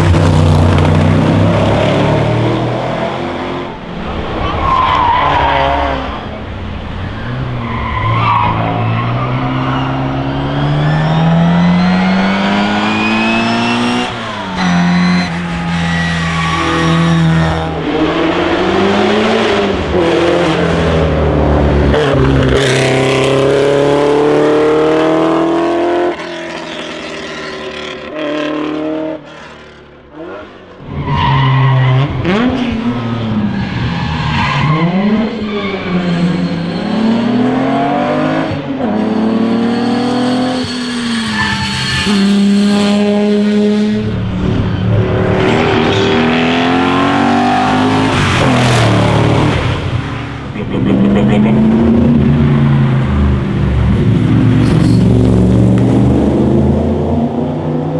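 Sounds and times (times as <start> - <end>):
racing car engines revving: 0.0 - 57.9.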